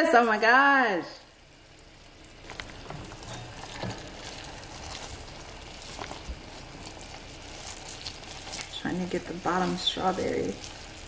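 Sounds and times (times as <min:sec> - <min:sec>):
sugar syrup boiling in a saucepan: 0:00.0 - 0:11.0.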